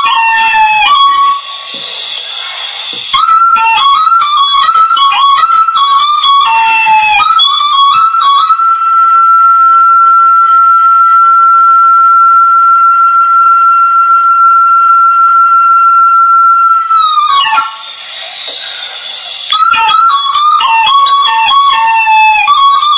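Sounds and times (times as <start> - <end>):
flute melody: 0.0 - 18.2, 19.4 - 22.9.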